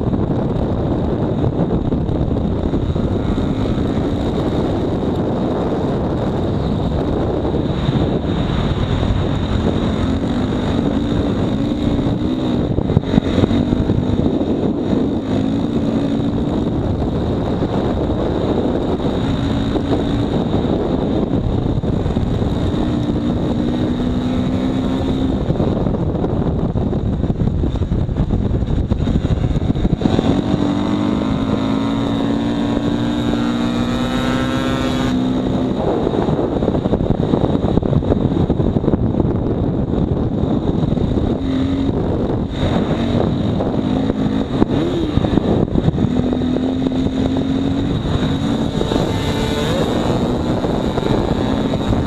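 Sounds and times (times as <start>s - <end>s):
motorcycle engine accelerating: 0.0s - 52.0s
wind noise on microphone: 0.0s - 52.0s.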